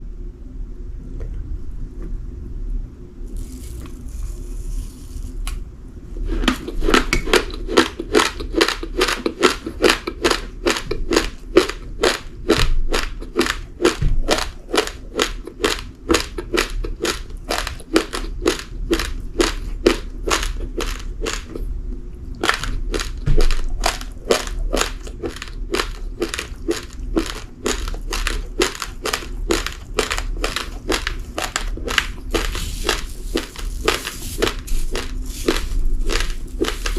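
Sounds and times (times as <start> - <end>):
raw rice crunching when chewed: 3.3 - 5.6, 6.2 - 21.6, 22.4 - 36.9.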